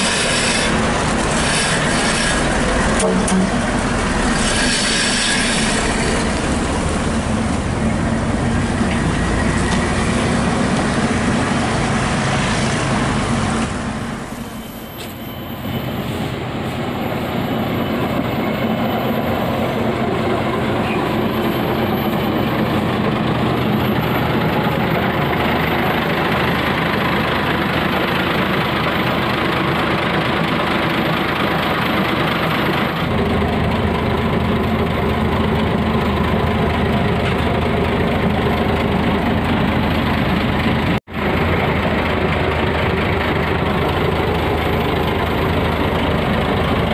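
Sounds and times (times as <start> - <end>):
diesel engine idling: 5.8 - 14.4, 16.2 - 46.9.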